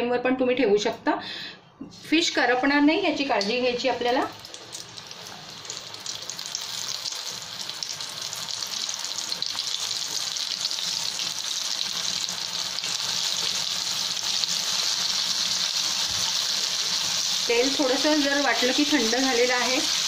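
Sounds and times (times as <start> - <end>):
fish deep-frying in oil: 3.4 - 20.0.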